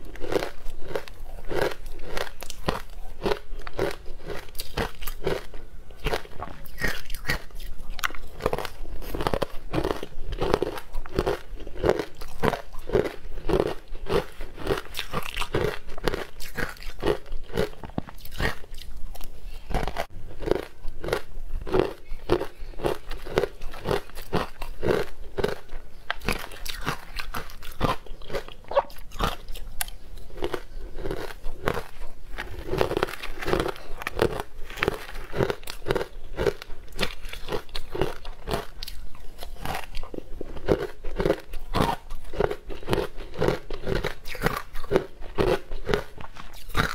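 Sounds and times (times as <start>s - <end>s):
mouth crunching ice: 0.1s - 46.9s.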